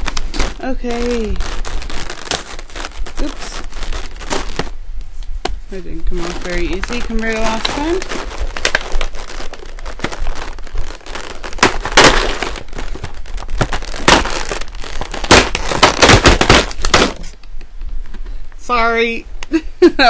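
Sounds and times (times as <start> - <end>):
packaging cracking and crinkling: 0.0 - 4.8, 5.5 - 17.6.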